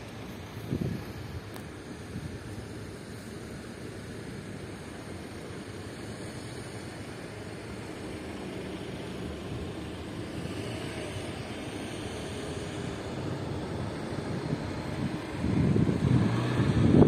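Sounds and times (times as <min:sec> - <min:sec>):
motor vehicle rumbling: 0:00.0 - 0:17.0.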